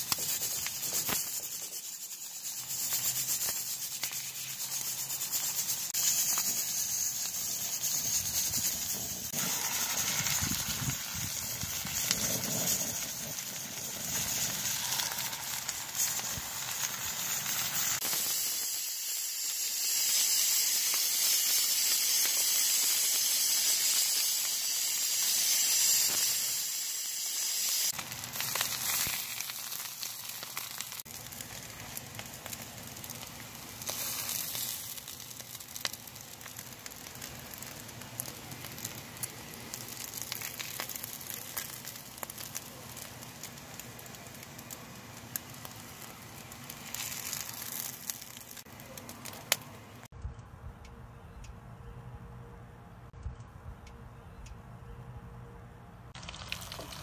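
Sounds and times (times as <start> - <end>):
small ticks and clicks: 0.0 - 26.5, 27.7 - 51.6, 56.2 - 57.0
oil sizzling in a frying pan: 0.0 - 48.7, 56.2 - 57.0.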